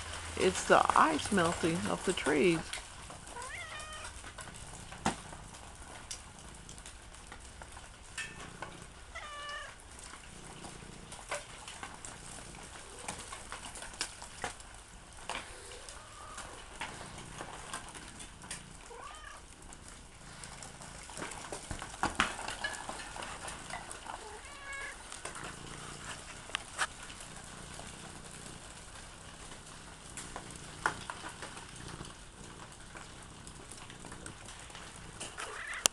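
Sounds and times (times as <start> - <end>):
falling ice tapping and dripping: 0.0 - 35.9.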